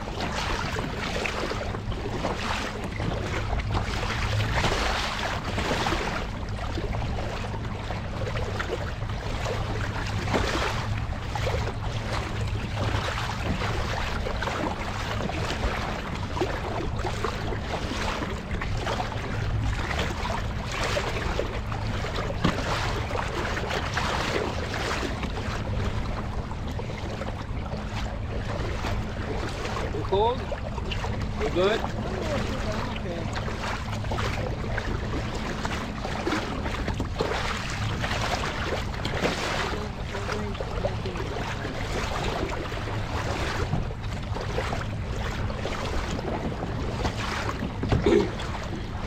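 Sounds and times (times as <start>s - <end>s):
water splashing around kayak: 0.0s - 49.0s
wind rumble on microphone: 0.0s - 49.0s.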